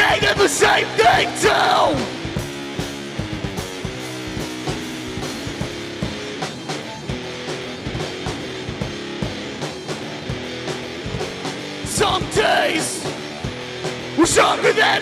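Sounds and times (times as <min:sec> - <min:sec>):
drum kit beat: 0:00.0 - 0:15.0
sustained guitar chords: 0:00.0 - 0:15.0.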